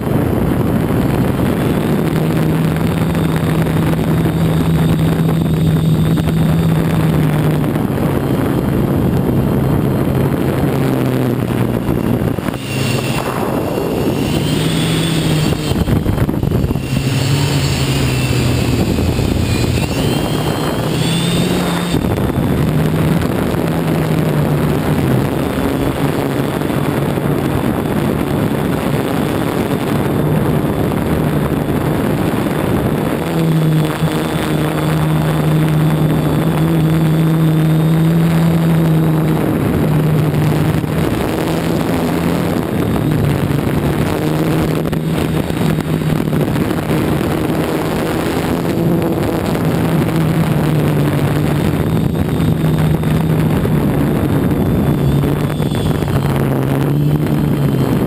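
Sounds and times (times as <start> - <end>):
constant rushing noise: 0.0 - 58.0
drone propellers whirring: 0.0 - 58.0.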